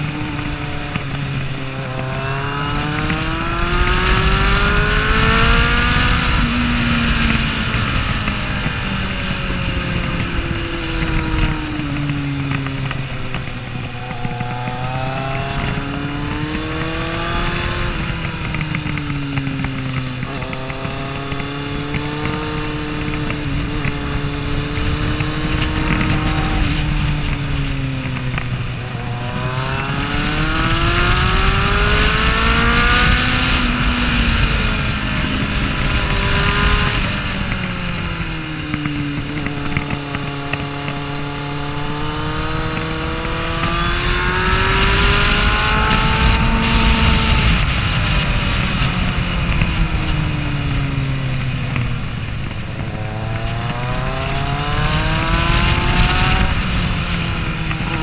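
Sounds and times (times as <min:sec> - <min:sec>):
motorcycle engine revving: 0:00.0 - 0:58.0
road noise: 0:00.0 - 0:58.0
wind noise: 0:00.0 - 0:58.0.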